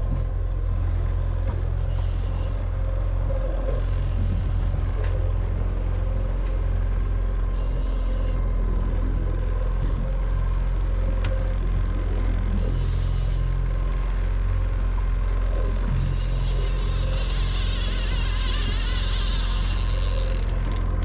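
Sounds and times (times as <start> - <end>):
boat motor droning: 0.0 - 21.0.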